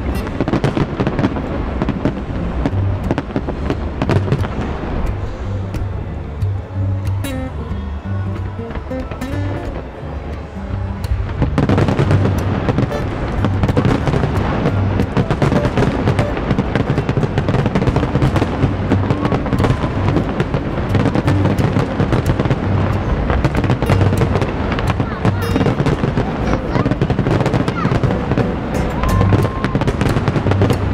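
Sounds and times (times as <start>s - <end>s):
fireworks bangs and crackling: 0.0s - 7.1s, 11.0s - 30.9s
music: 0.0s - 30.9s.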